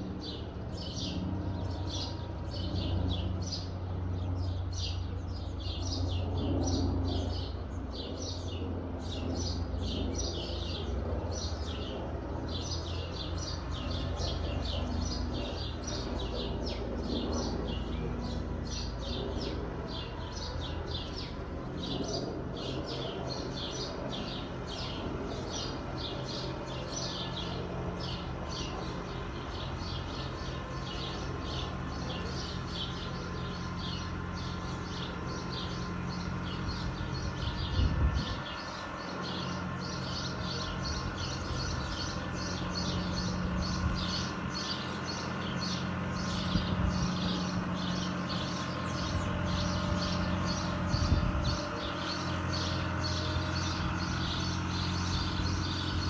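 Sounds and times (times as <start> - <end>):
distant tractor diesel engine drone: 0.0 - 56.0
bird chirping: 0.2 - 56.0.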